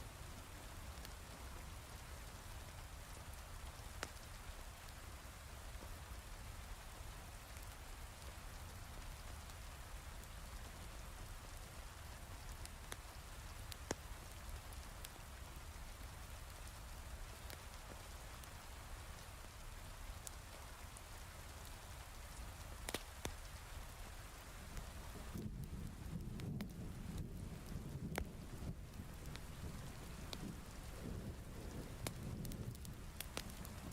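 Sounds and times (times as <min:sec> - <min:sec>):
heavy rain falling: 0:06.0 - 0:33.9.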